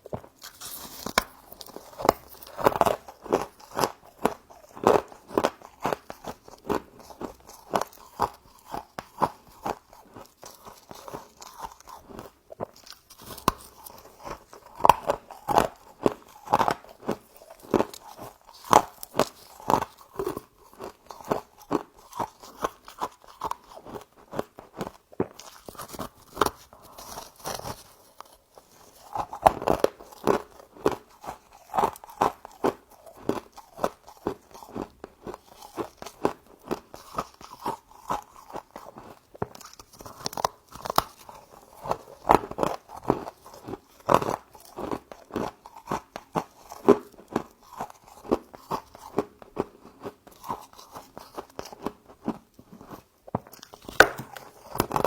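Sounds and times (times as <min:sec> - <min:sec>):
crunching and chewing frost: 0:00.0 - 0:55.0.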